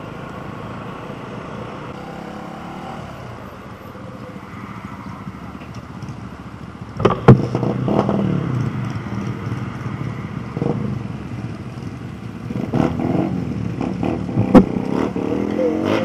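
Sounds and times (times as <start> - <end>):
small motorcycle engines revving: 1.7 - 16.0.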